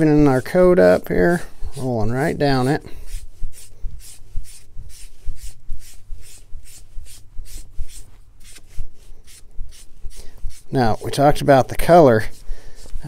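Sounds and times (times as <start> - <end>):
foam brush rubbing leather: 0.0 - 13.0.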